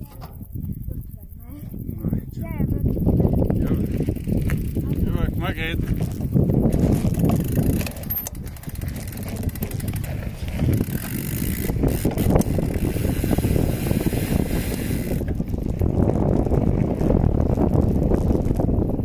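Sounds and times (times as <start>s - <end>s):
bicycle freewheel ticking: 0.0s - 19.0s
wind rumble on microphone: 0.0s - 19.0s.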